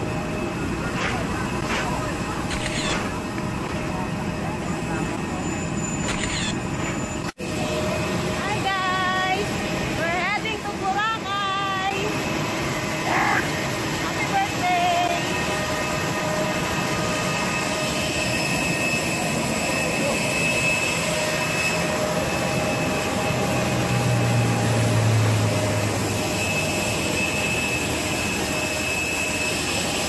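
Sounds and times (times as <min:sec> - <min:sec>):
jet turbine roar: 0:00.0 - 0:30.0.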